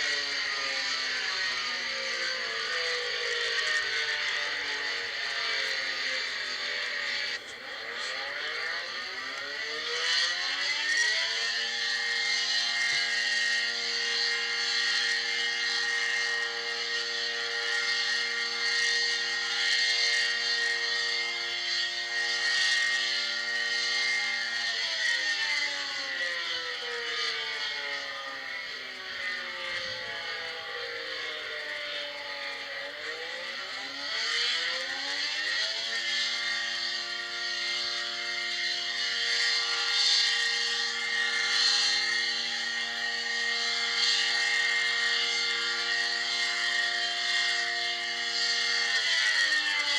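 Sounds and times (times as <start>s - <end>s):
tornado siren low steady tone: 0.0s - 49.9s.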